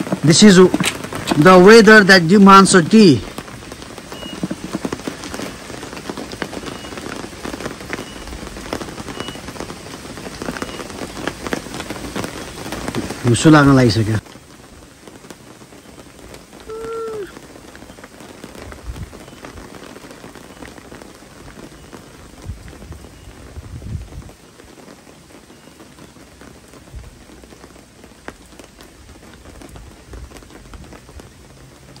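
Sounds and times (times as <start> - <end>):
heavy rain pattering: 0.0 - 32.0.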